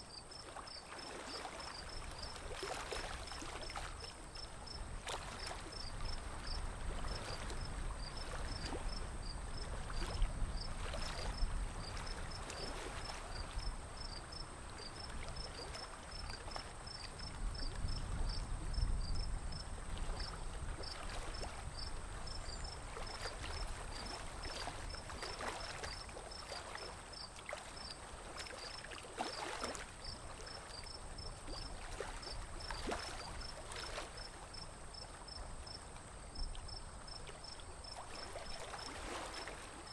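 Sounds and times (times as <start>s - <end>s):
water splashing against boat: 0.3s - 13.5s, 20.0s - 35.7s, 36.4s - 39.9s.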